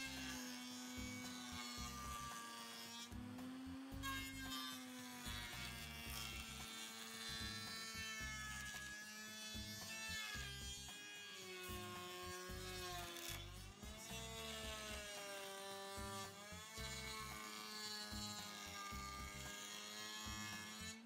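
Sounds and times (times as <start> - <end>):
router whining while cutting wood: 0.0 - 21.0.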